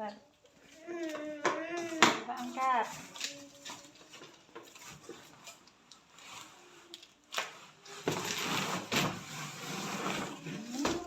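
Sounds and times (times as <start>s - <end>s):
scraping rustle: 1.8s - 11.0s.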